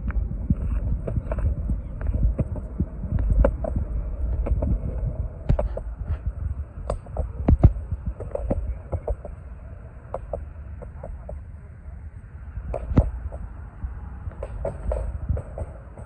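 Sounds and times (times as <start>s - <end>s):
skateboard wheels rolling on concrete: 0.0s - 16.0s.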